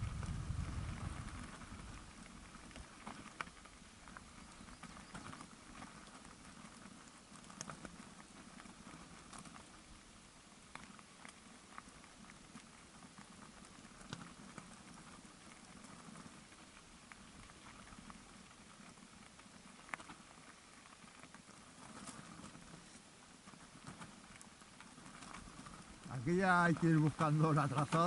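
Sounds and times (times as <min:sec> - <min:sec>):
bike tyres crunching on gravel: 0:00.0 - 0:28.0
stones and bike rattling: 0:00.0 - 0:28.0.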